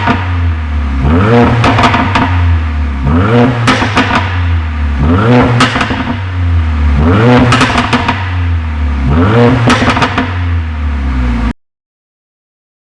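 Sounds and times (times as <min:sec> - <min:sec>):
car engine revving: 0:00.0 - 0:11.5
exhaust popping and crackling: 0:00.0 - 0:11.5.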